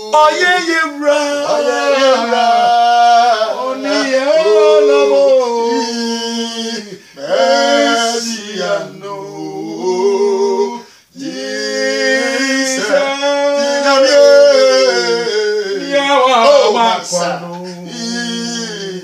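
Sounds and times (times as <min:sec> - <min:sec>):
men singing unaccompanied: 0:00.0 - 0:19.0.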